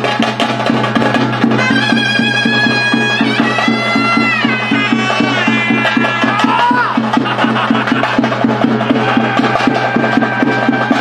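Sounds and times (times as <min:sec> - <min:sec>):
drum beating: 0:00.0 - 0:11.0
reed pipe melody: 0:01.4 - 0:11.0.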